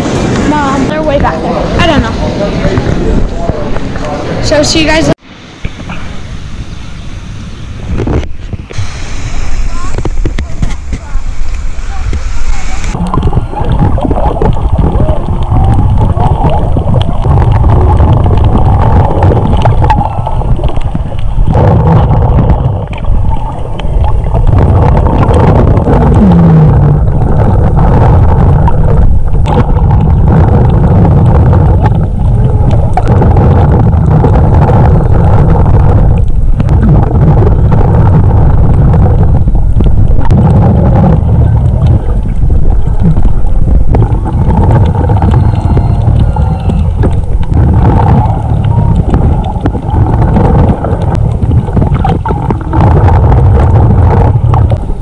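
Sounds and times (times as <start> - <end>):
muffled underwater rumbling: 0.0 - 55.0
clicks and gurgles: 9.9 - 55.0.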